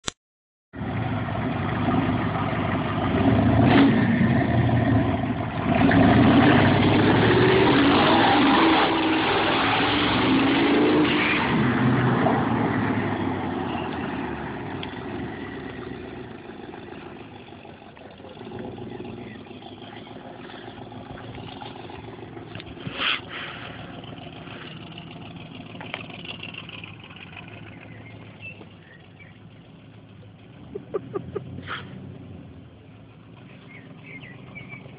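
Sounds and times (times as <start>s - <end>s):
car engine accelerating: 0.8s - 34.9s.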